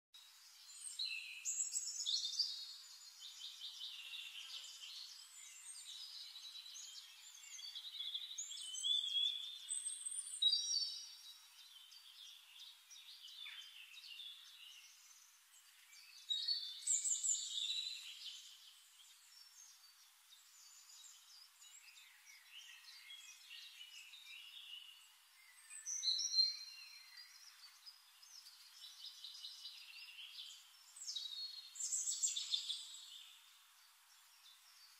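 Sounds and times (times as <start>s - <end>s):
small birds singing: 0.1s - 34.9s.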